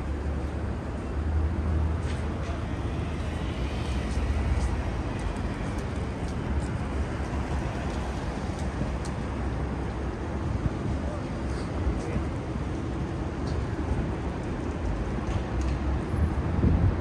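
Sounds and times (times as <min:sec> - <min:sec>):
low rumble of passing vehicles: 0:00.0 - 0:17.0.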